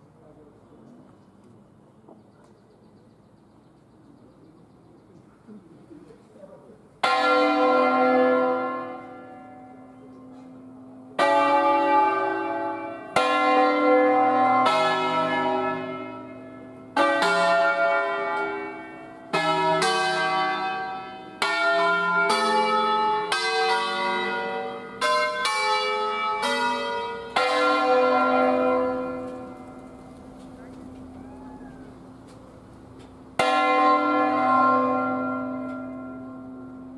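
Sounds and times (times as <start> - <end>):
church bells ringing: 7.0 - 36.9.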